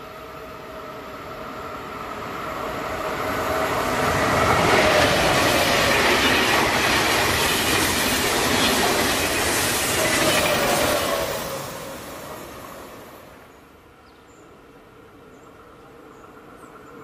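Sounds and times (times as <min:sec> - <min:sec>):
high-speed train passing: 0:00.0 - 0:17.0.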